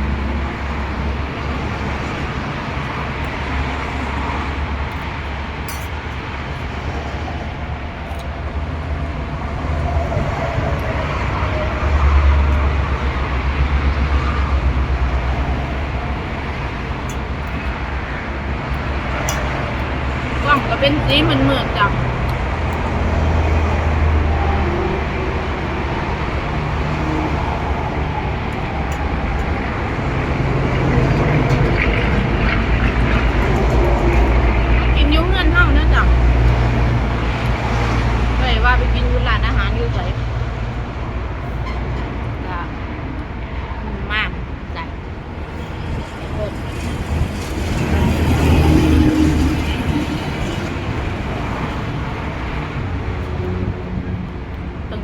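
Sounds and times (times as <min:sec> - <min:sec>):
strong wind on microphone: 0:00.0 - 0:55.0.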